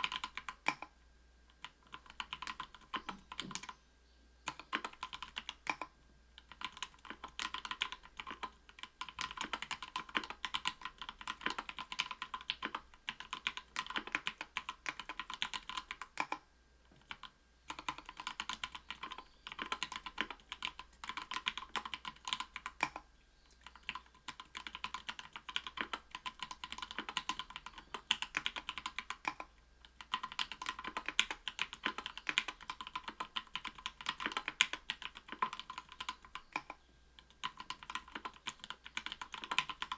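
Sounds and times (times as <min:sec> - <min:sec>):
fast typing on mechanical keyboard: 0:00.0 - 0:00.9, 0:01.6 - 0:03.7, 0:04.5 - 0:16.4, 0:17.0 - 0:23.0, 0:23.6 - 0:39.9.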